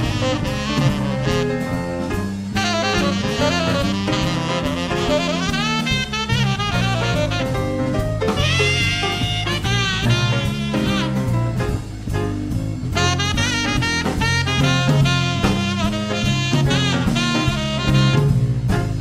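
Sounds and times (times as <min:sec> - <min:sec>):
saxophone solo: 0:00.0 - 0:11.8, 0:12.9 - 0:19.0
drum kit: 0:00.0 - 0:19.0
electric bass: 0:00.0 - 0:19.0.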